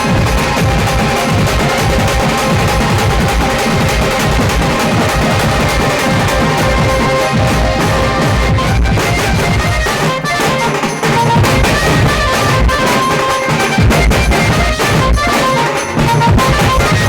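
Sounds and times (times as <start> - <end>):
bass drum beats: 0.0 - 17.0
keyboard melody of held notes: 0.0 - 17.0
tasa drum strokes: 0.0 - 17.0.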